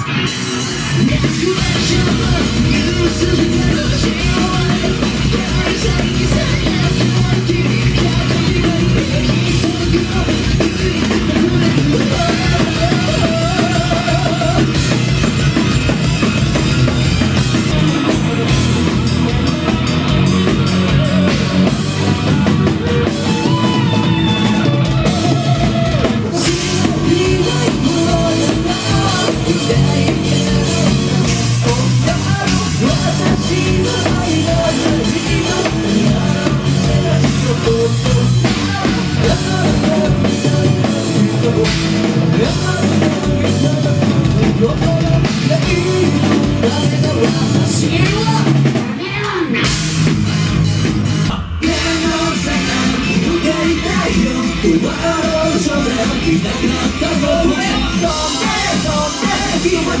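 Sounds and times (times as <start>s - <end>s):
drum kit: 0.0s - 60.0s
electric guitars: 0.0s - 60.0s.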